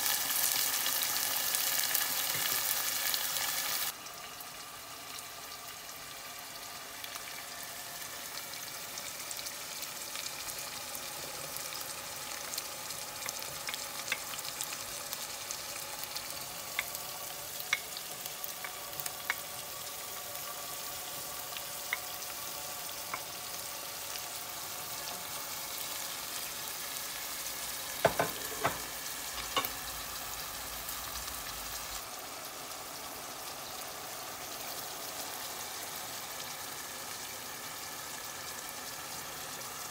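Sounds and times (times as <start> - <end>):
vegetables sizzling in oil: 0.0 - 39.9.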